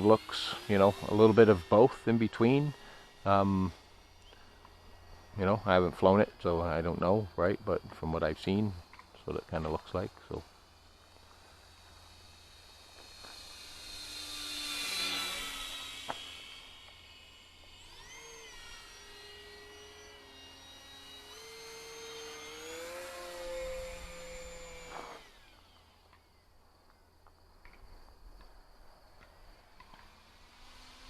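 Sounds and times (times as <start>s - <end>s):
model airplane motor whining: 0.0s - 26.5s, 29.6s - 31.0s.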